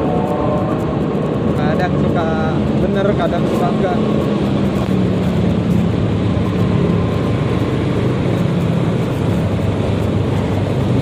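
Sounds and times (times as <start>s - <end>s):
road noise: 0.0s - 11.0s
scooter engine humming: 0.0s - 11.0s.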